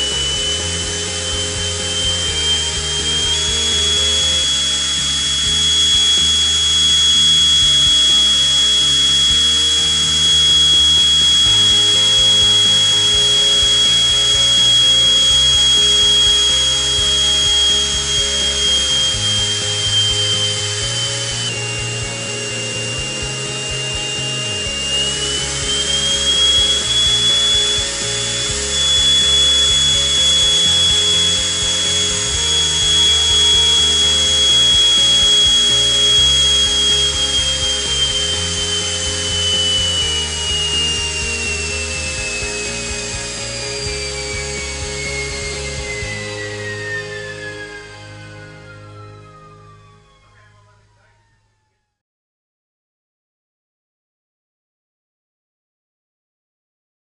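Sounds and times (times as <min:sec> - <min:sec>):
background music: 0:00.0 - 0:50.8
jet engine high whine: 0:00.0 - 0:51.4.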